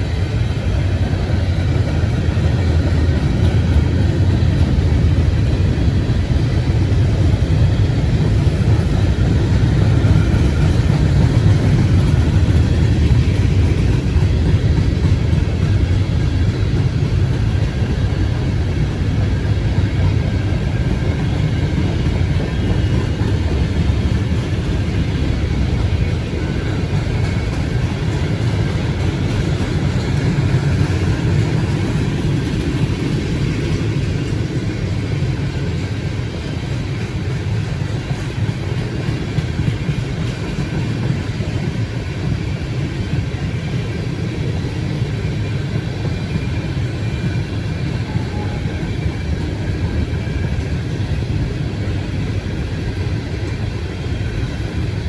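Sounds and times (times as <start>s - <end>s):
freight train rolling past: 0.0s - 55.0s
wheels on rail: 0.0s - 55.0s.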